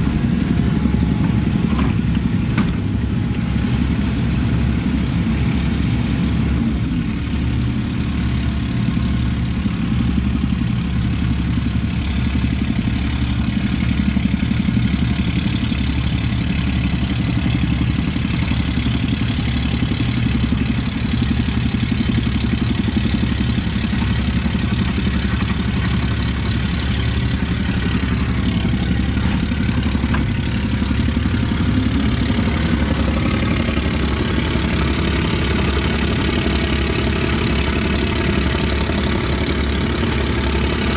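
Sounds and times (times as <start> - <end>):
diesel engine throbbing: 0.0 - 40.9.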